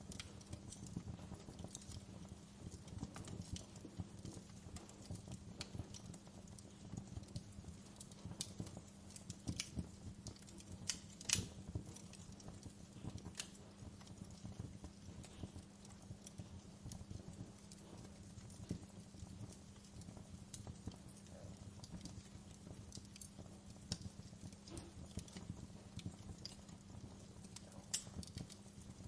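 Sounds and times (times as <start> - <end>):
faint low hum: 0.0 - 29.0
sharp fire pops: 0.0 - 29.0
wood fire crackling: 0.0 - 29.0.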